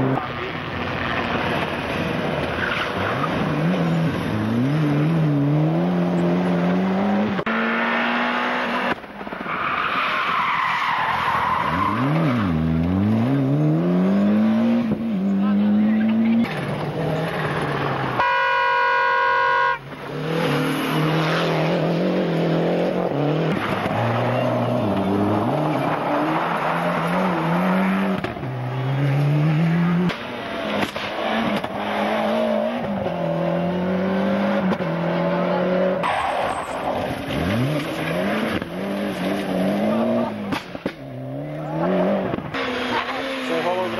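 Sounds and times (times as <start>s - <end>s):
rally car engine revving: 0.0s - 18.2s, 19.9s - 43.9s.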